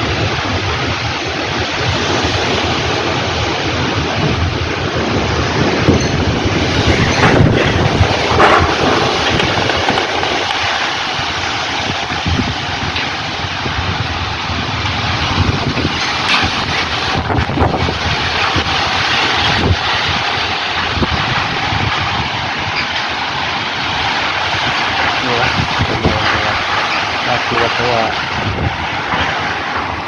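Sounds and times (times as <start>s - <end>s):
rain hiss: 0.0s - 30.0s
strong gusting wind buffeting microphone: 0.0s - 30.0s.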